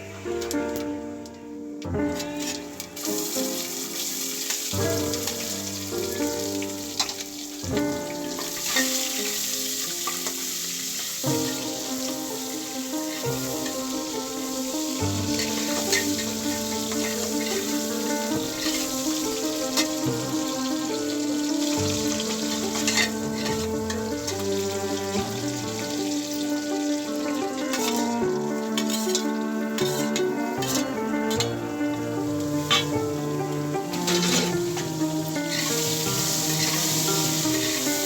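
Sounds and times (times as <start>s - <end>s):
background music: 0.0s - 38.0s
food sizzling in hot oil: 2.0s - 38.0s
stirring: 4.8s - 38.0s.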